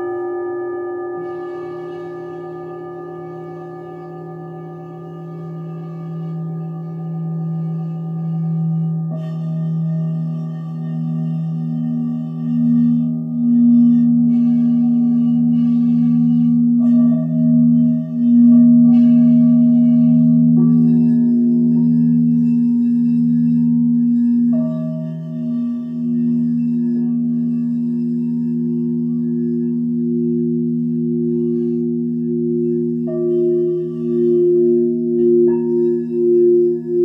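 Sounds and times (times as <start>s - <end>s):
singing bowl struck: 0.0s - 37.0s
singing bowls ringing: 0.0s - 37.0s.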